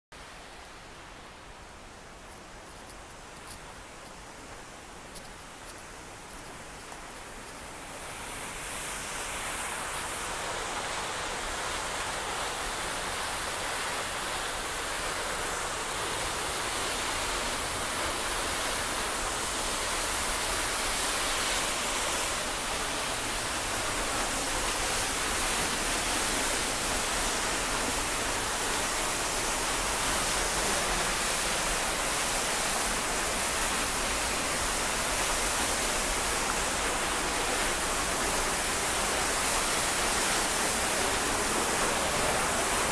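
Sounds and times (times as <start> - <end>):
waterfall rushing: 7.8 - 42.9.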